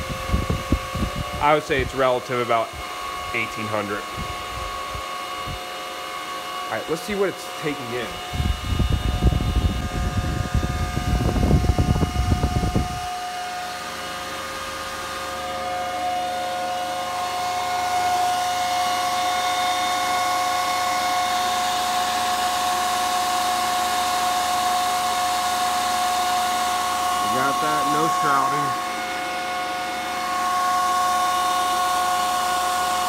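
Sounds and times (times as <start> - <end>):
cooling fans whining: 0.0 - 33.0
fan blast buffeting microphone: 0.0 - 33.0.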